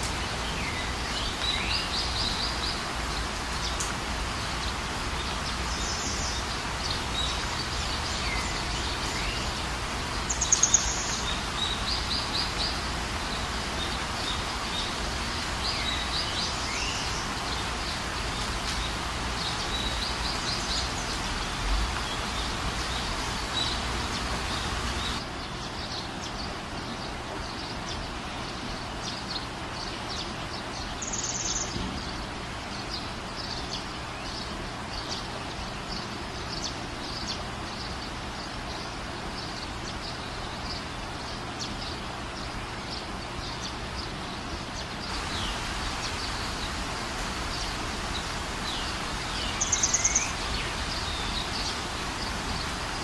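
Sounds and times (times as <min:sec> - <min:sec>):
steady ambient hiss: 0:00.0 - 0:53.0.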